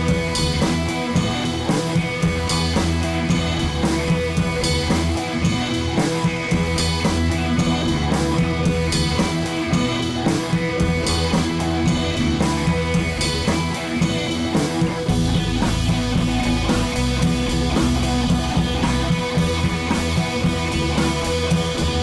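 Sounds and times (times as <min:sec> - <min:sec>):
rock music with guitar and drums: 0:00.0 - 0:22.0.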